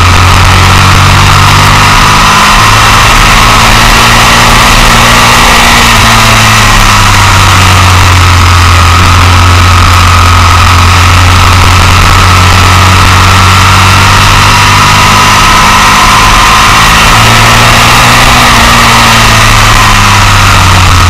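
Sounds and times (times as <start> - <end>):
motorcycle engine running hard: 0.0 - 21.0
wind and road noise: 0.0 - 21.0.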